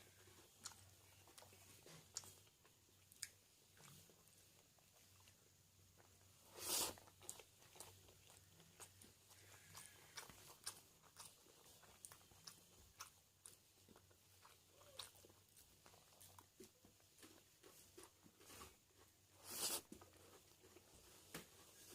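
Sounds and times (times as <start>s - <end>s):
mouth clicks and chewing: 0.1s - 21.5s.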